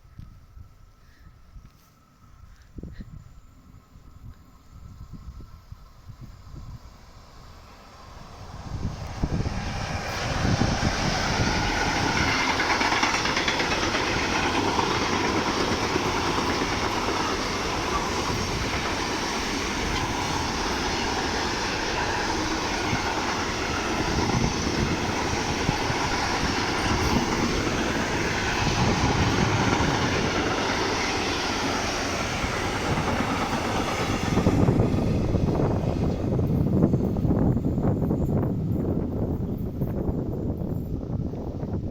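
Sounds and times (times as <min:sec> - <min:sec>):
train passing on rails: 0:00.0 - 0:41.9.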